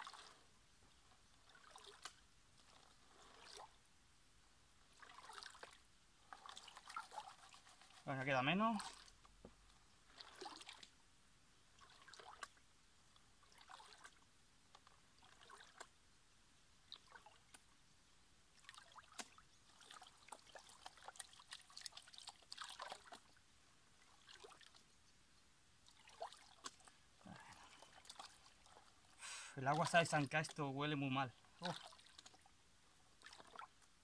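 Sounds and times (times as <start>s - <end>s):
water splashing and trickling: 0.0s - 3.9s, 4.7s - 11.0s, 11.6s - 34.0s.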